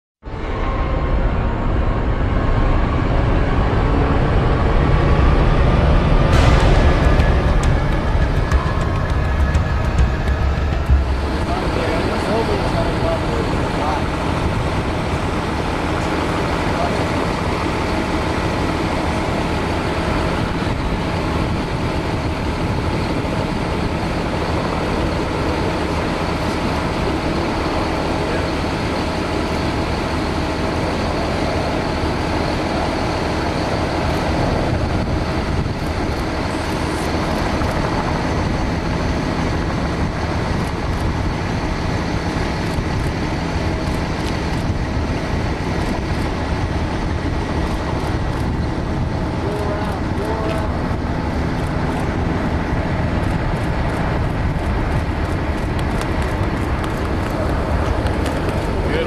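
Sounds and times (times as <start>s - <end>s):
jet engines running: 0.2s - 59.0s.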